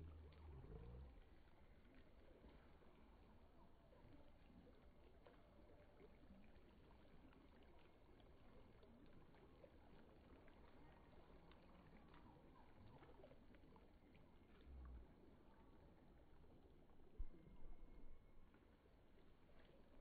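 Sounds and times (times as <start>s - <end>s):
stream babbling: 0.0s - 20.0s.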